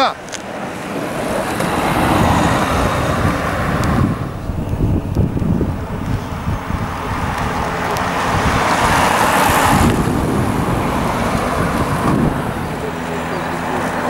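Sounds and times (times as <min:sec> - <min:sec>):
passing car: 0:00.0 - 0:14.0
wind buffeting microphone: 0:00.1 - 0:14.0.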